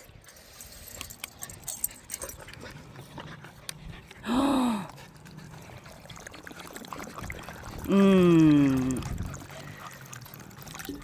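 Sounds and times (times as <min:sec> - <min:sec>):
dogs panting: 0:00.0 - 0:04.3, 0:04.9 - 0:07.8, 0:09.0 - 0:10.8.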